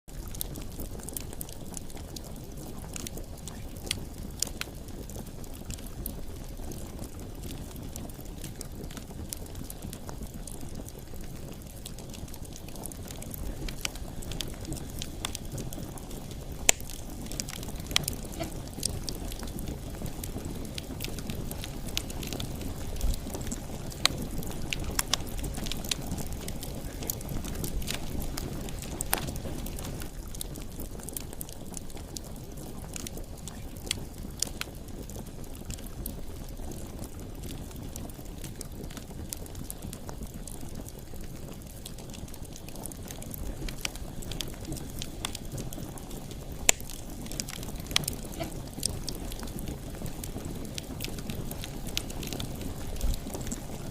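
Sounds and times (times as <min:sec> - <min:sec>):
bonfire flame rushing: 0:00.1 - 0:53.9
firewood crackling and popping: 0:00.1 - 0:53.9.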